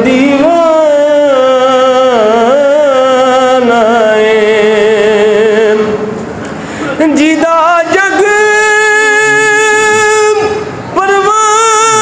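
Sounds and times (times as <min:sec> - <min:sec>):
man singing unaccompanied: 0:00.0 - 0:06.1, 0:07.0 - 0:12.0.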